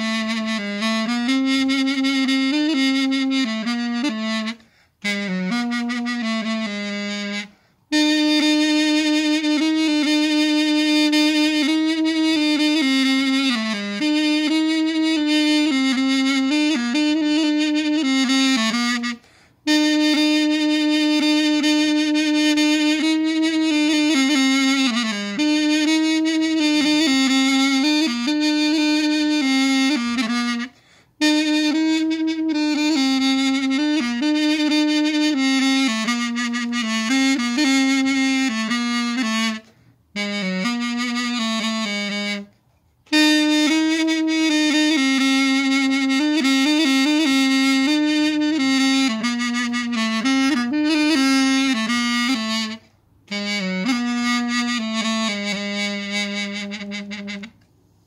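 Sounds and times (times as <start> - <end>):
double-reed pipe melody: 0.0 - 42.5, 43.1 - 57.6.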